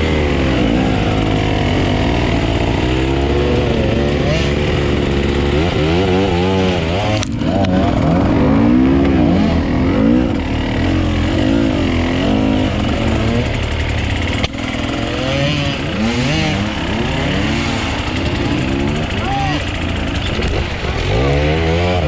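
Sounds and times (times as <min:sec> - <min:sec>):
low engine drone: 0:00.0 - 0:22.0
motorcycle engines revving: 0:00.0 - 0:22.0.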